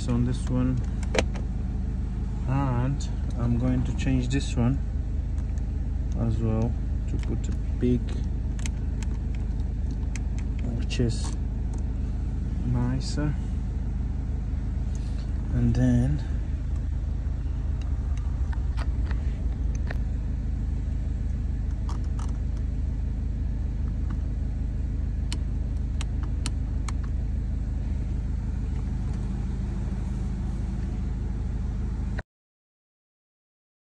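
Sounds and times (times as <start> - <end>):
car engine idling: 0.0 - 32.2.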